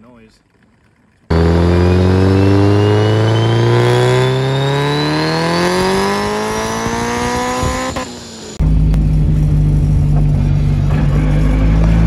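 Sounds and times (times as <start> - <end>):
car engine revving at full throttle: 1.3 - 12.0
high turbo whine: 1.3 - 12.0.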